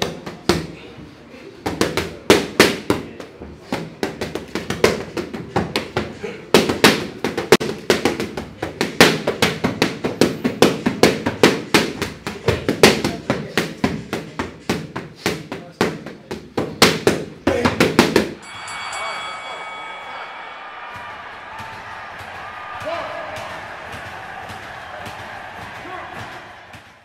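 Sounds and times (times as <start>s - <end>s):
boxing gloves slapping mitts: 1.7s - 18.4s, 21.5s - 27.0s.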